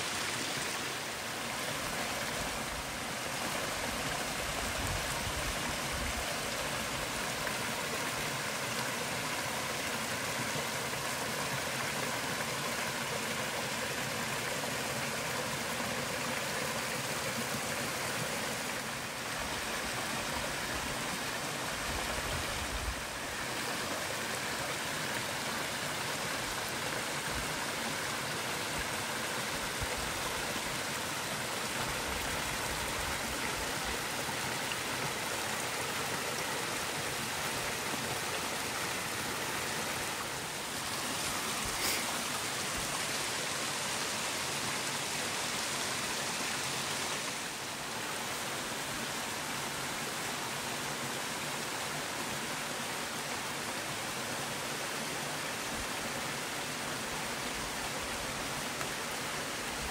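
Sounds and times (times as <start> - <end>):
rushing stream water: 0.0 - 59.9.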